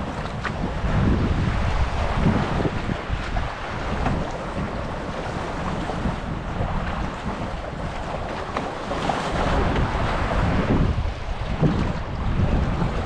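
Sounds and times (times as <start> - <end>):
water rushing past boat hulls: 0.0 - 13.0
wind blowing over microphone: 0.0 - 13.0.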